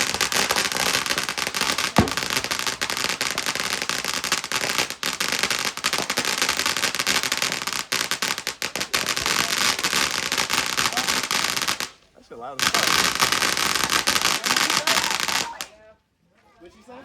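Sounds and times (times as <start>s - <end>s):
firework bang: 0.0s - 12.0s, 12.6s - 15.7s
fireworks crackling: 0.0s - 15.8s.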